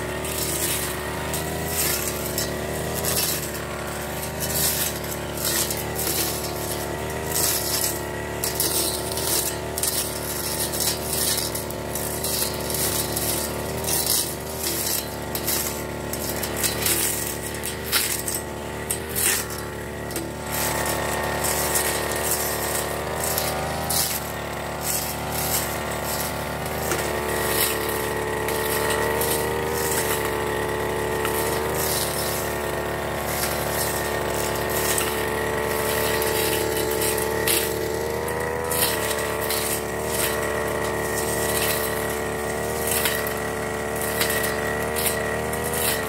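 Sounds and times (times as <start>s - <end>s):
brush cutter engine running: 0.0s - 46.0s
cutting head slashing grass: 0.0s - 46.0s.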